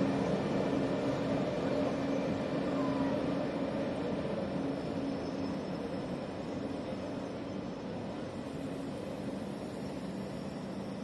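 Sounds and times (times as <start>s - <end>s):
electric locomotive hum: 0.0s - 11.0s
train wheels rumbling on rail: 0.0s - 11.0s.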